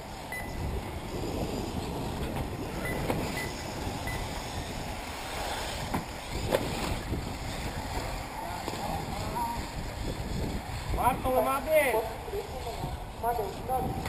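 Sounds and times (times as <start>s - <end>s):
rc buggies running: 0.0s - 14.0s.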